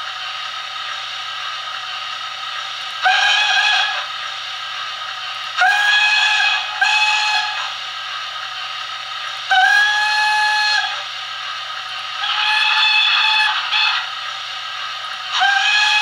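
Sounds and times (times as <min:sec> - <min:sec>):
hiss of steam: 0:00.0 - 0:16.0
steam locomotive whistle: 0:02.7 - 0:16.0.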